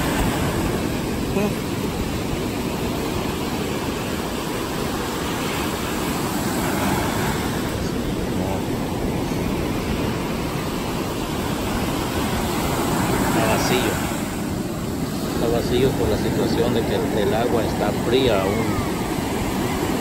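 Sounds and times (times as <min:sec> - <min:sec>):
ocean surf breaking on sand: 0:00.0 - 0:20.0.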